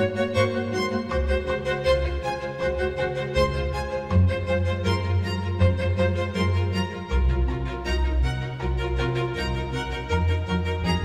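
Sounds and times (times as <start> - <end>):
bowed strings: 0.0 - 11.0.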